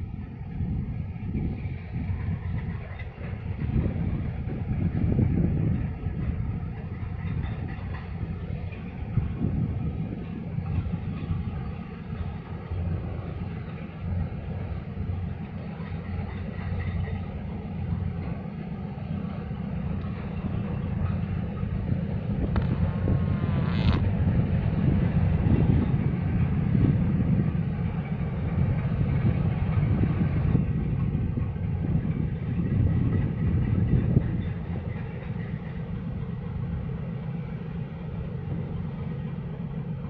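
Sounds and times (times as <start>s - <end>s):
ship engine low rumble: 0.0s - 40.0s.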